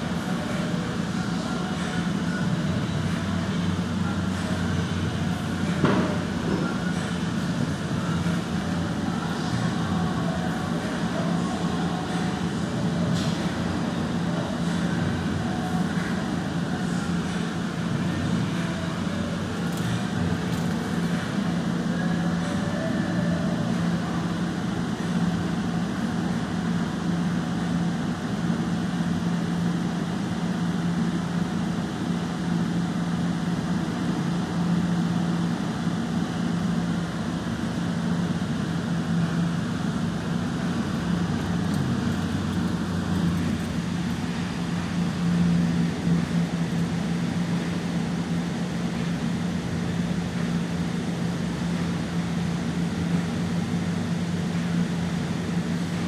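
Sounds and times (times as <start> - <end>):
low mechanical drone: 0.0 - 56.0.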